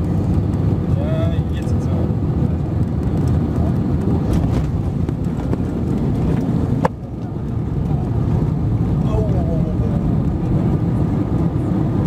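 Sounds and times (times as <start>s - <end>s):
aircraft engines and wheels rumbling: 0.0s - 12.0s.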